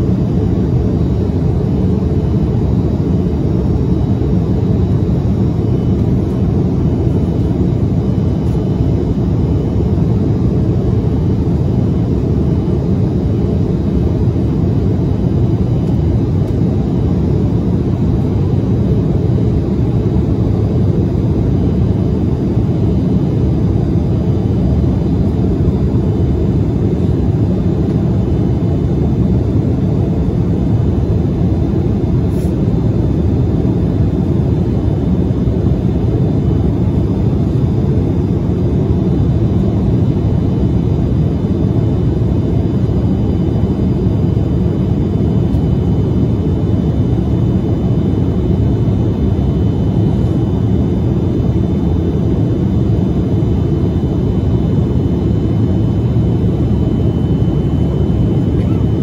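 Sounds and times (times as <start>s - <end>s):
jet cabin airflow and engines: 0.0s - 59.0s.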